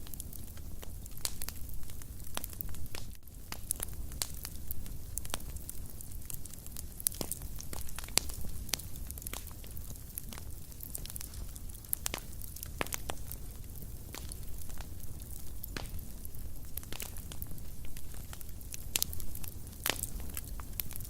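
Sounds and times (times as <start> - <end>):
fire crackling and popping: 0.0 - 21.0
low rumble of flames: 0.0 - 21.0.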